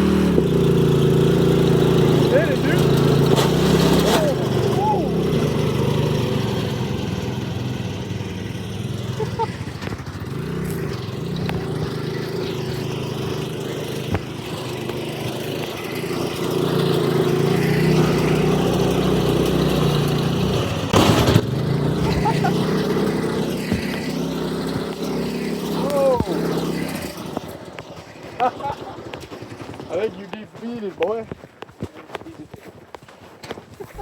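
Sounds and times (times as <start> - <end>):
lawnmower engine running: 0.0 - 34.0.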